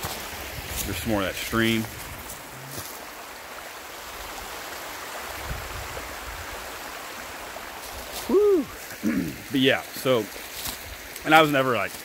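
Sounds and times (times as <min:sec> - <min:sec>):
creek water rippling: 0:00.0 - 0:12.0.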